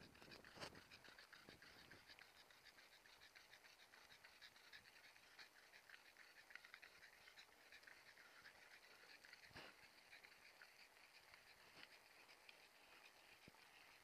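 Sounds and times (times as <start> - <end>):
faint light ticks and rattles: 0.0 - 14.0.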